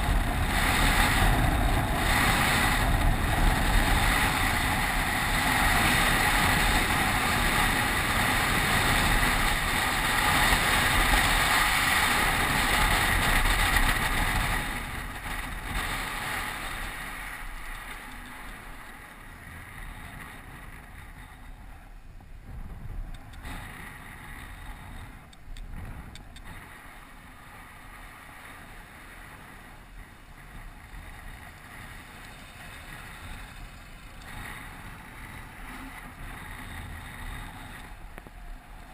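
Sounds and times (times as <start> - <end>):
bike tyres rolling on asphalt: 0.0 - 38.9
wind rushing over microphone: 0.0 - 38.9.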